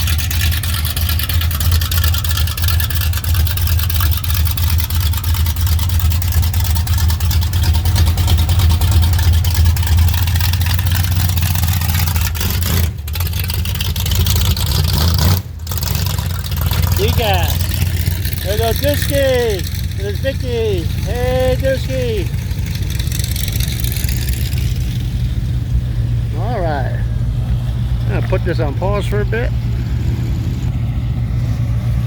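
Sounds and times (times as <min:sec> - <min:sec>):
car engine exhaust rumble: 0:00.0 - 0:32.0.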